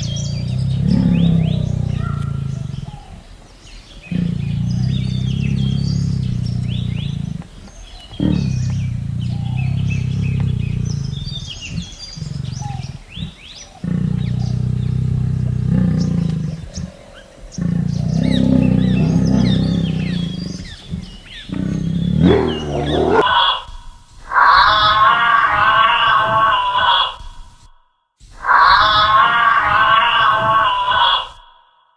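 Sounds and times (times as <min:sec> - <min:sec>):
big cat roaring: 0:00.0 - 0:23.6, 0:28.4 - 0:31.4
birds chirping: 0:00.0 - 0:27.5, 0:28.3 - 0:31.5.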